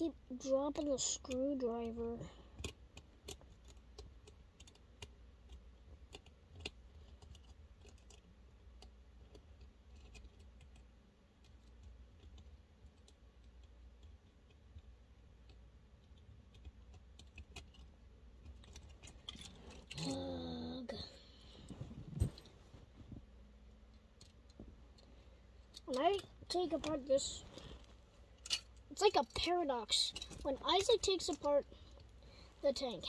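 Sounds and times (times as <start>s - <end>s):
low steady hum: 0.0s - 33.0s
plastic parts being handled: 2.6s - 14.1s, 14.8s - 20.2s, 21.4s - 32.8s.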